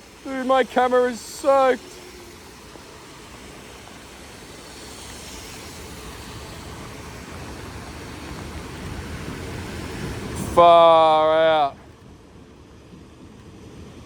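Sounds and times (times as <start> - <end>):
heavy rain on a street: 0.0 - 14.0
road traffic rumbling: 0.0 - 14.0.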